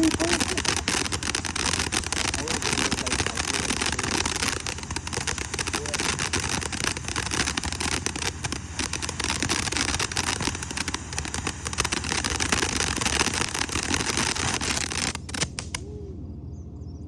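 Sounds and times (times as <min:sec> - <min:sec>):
firework pops: 0:00.0 - 0:15.8
fireworks crackling: 0:00.0 - 0:15.8.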